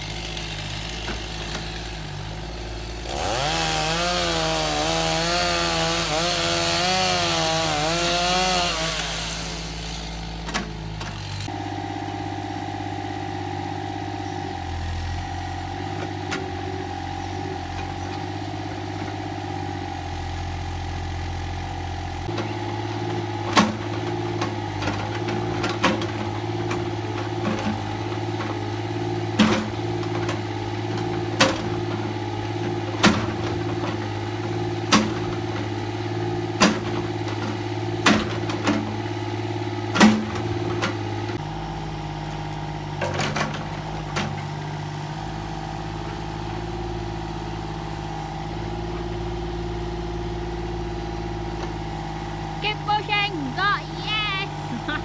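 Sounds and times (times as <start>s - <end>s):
engine idling: 9.2s - 55.0s.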